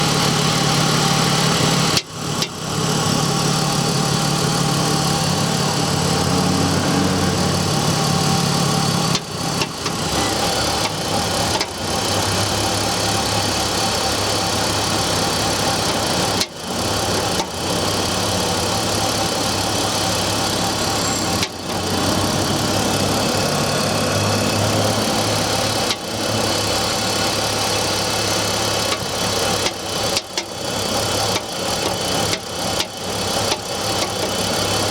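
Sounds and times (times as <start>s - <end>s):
engine knocking: 0.0s - 6.4s, 7.6s - 34.9s
car engine idling: 0.0s - 34.9s.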